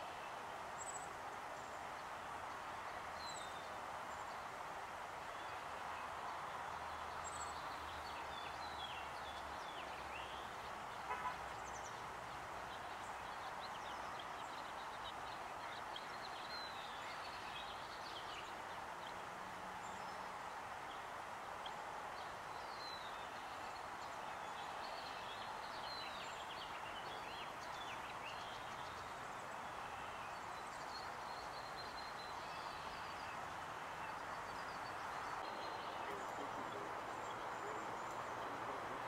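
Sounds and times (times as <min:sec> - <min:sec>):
faint outdoor hiss: 0:00.0 - 0:39.0
small birds chirping: 0:05.3 - 0:39.0.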